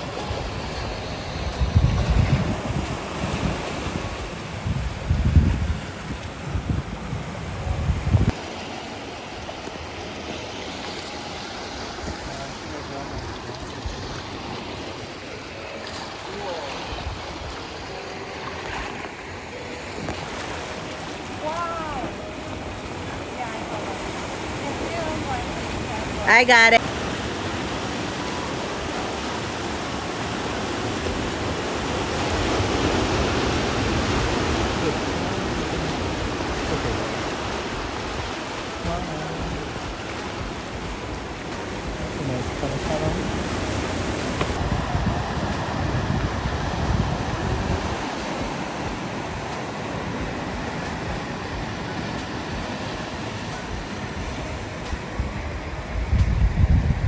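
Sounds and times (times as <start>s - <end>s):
wind buffeting microphone: 0.0s - 8.5s, 16.8s - 57.0s
surf washing against rocks: 0.0s - 57.0s.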